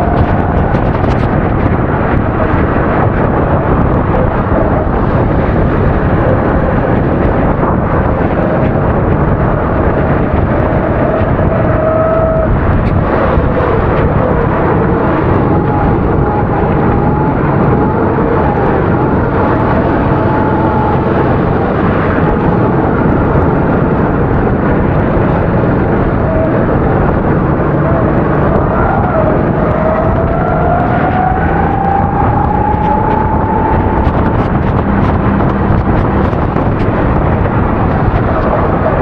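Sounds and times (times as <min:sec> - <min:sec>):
kart engine running: 0:00.0 - 0:39.0
steady rushing noise: 0:00.0 - 0:39.0.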